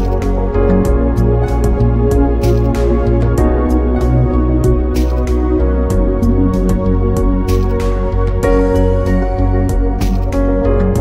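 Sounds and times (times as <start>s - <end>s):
instrumental music with percussive beat: 0.0s - 11.0s.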